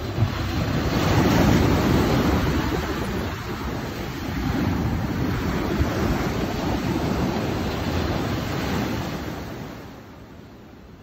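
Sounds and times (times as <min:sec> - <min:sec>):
ocean waves breaking over rocks: 0:00.0 - 0:11.0.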